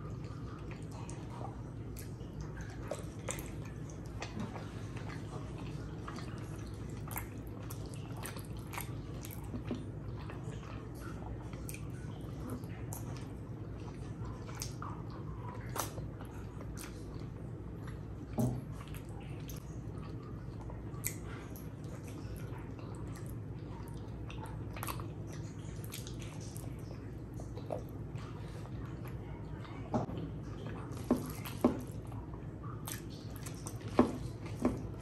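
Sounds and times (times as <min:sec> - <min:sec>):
low background hum: 0:00.0 - 0:35.0
wet chewing and lip smacking: 0:00.1 - 0:35.0.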